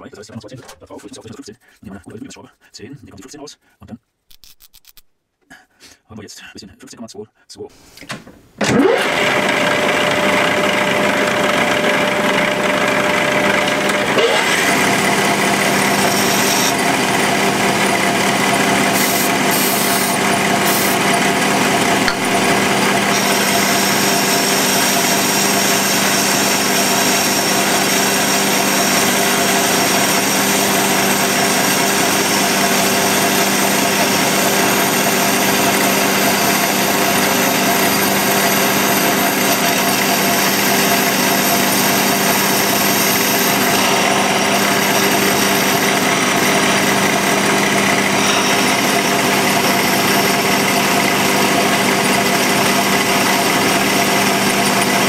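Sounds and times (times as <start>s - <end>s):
metal lathe machining steel: 8.6s - 55.0s.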